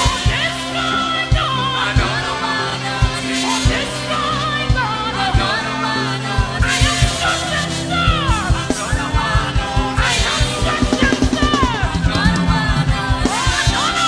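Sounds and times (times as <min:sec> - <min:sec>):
gospel band playing: 0:00.0 - 0:14.0
voices singing: 0:00.0 - 0:14.0.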